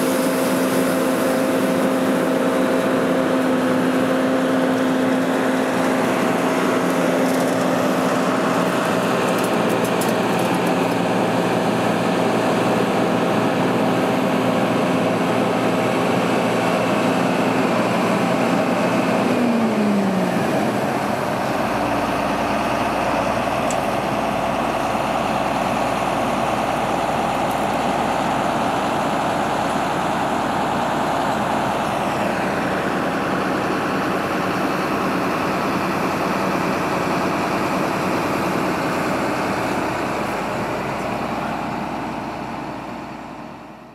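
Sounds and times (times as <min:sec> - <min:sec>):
engine noise: 0:00.0 - 0:43.9
harvest machinery whine: 0:00.0 - 0:43.9.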